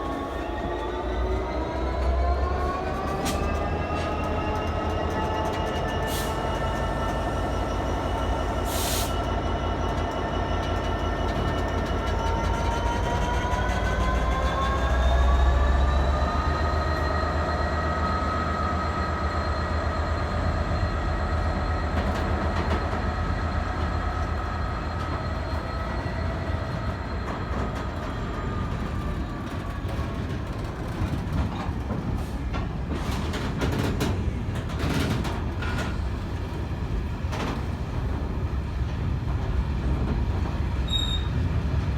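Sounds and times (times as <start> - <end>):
diesel locomotive engine: 0.0 - 41.9.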